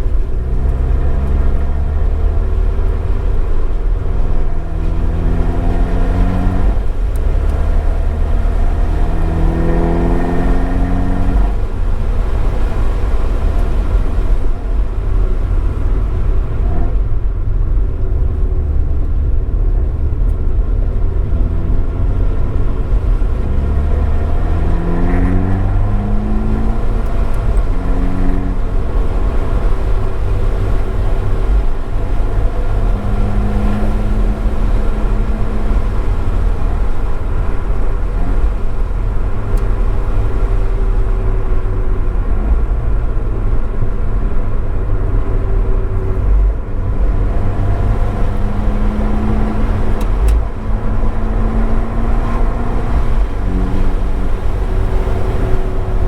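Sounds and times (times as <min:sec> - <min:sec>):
car engine revving hard: 0:00.0 - 0:17.1, 0:20.0 - 0:56.0.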